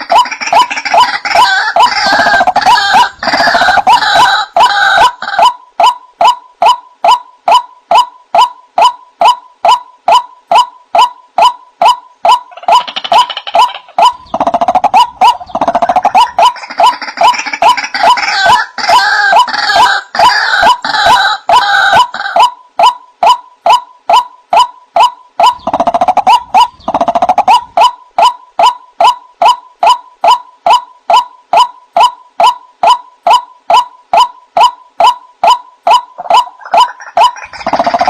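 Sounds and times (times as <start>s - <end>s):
waterhen calling: 0.0s - 38.0s.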